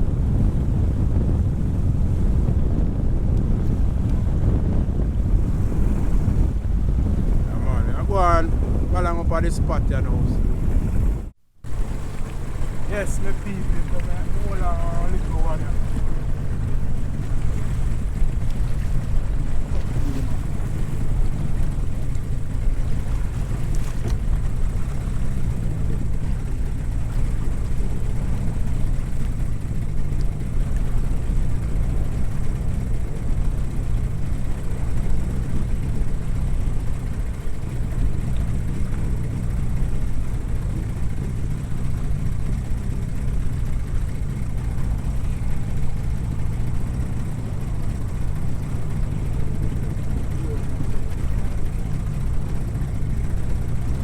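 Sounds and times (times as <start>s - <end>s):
boat engine rumbling: 0.0s - 54.0s
water noise: 0.0s - 54.0s
wind noise: 0.0s - 54.0s.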